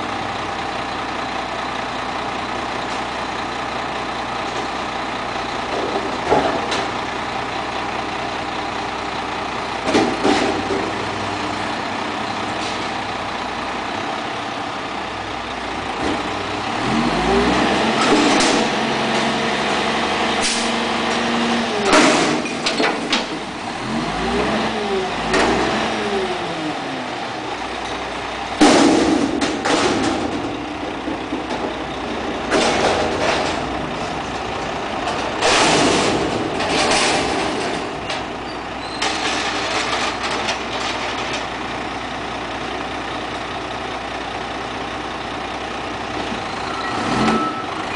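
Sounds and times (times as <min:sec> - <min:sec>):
garbage truck engine revving: 0:00.0 - 0:47.9.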